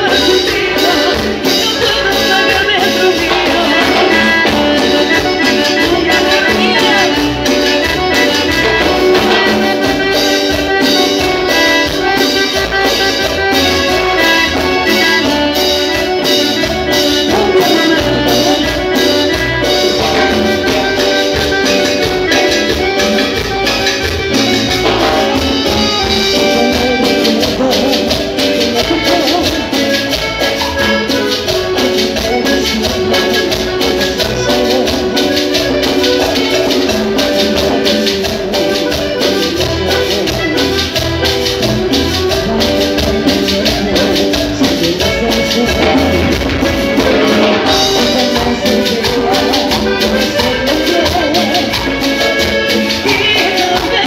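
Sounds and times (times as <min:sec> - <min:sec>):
live band playing latin dance music: 0:00.0 - 0:54.0.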